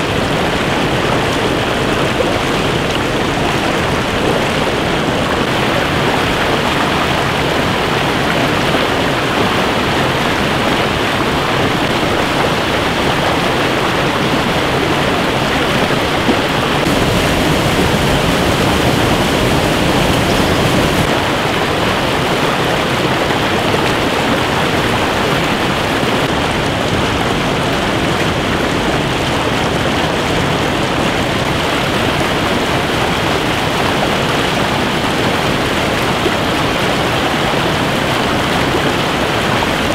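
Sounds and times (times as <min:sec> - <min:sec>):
stream water rushing over rocks: 0:00.1 - 0:39.9.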